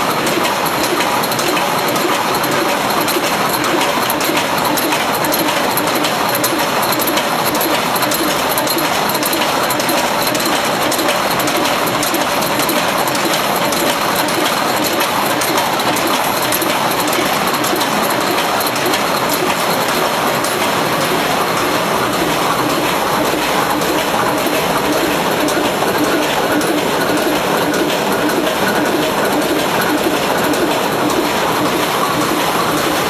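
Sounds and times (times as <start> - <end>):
machine clattering with clicks: 0.0 - 33.0.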